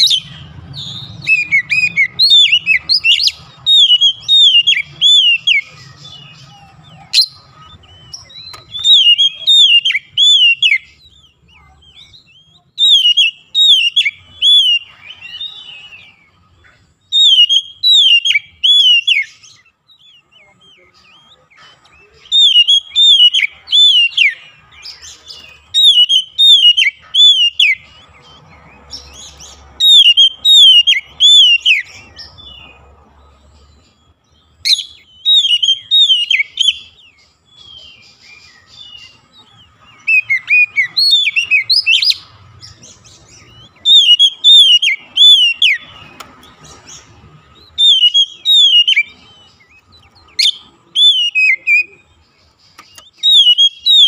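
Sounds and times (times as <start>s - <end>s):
bird singing whistles: 0.0s - 16.4s, 17.0s - 21.4s, 22.0s - 32.7s, 33.8s - 54.0s.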